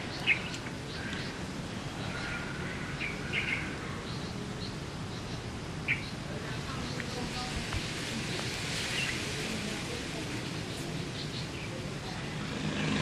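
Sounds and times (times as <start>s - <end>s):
low background hiss: 0.0s - 12.8s.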